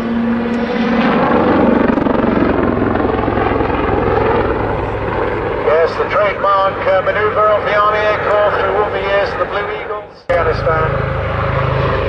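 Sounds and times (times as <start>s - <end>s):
helicopter rotor chopping: 0.0s - 12.0s
turbine noise: 0.0s - 12.0s.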